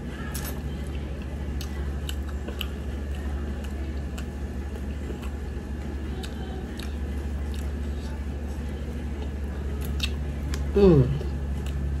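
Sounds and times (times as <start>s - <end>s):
steady low hum: 0.0s - 12.0s
chewing clicks and smacks: 0.3s - 8.2s, 9.1s - 12.0s.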